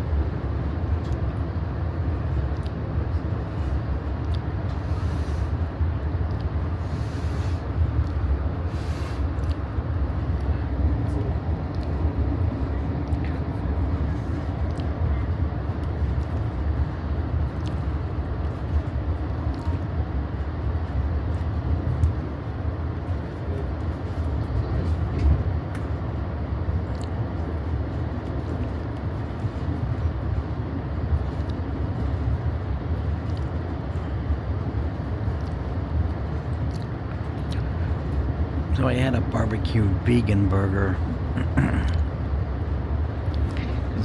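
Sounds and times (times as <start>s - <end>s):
train wheels rumbling on rails: 0.0s - 39.3s.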